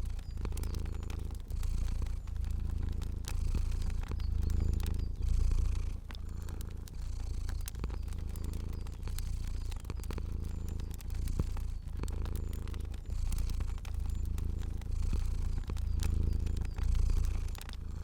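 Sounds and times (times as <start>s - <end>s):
cat purring: 0.0s - 18.0s
fire crackling: 0.0s - 18.0s.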